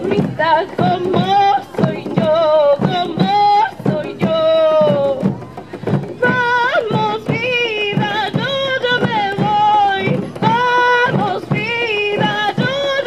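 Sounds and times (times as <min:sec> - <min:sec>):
drum ensemble: 0:00.0 - 0:13.0
women singing folk melody: 0:00.0 - 0:13.0.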